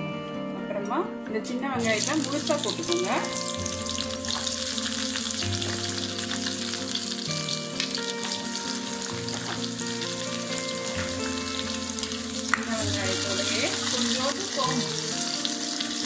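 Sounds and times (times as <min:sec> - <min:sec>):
shallots sizzling in hot oil: 0:01.8 - 0:16.0.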